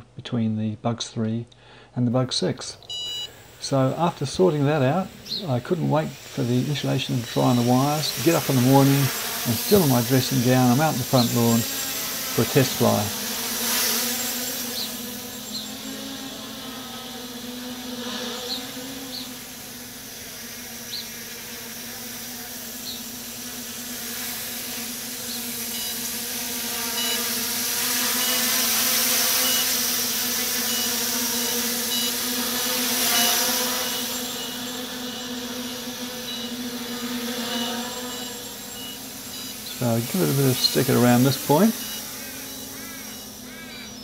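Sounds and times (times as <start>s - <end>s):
drone propellers buzzing: 2.9s - 44.0s.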